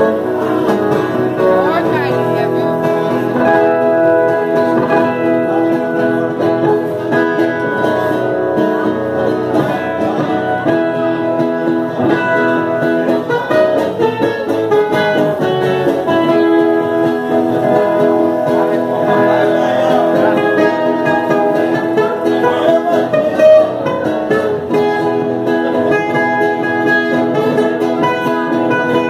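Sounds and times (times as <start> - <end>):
plucked strings duet: 0.0 - 29.0.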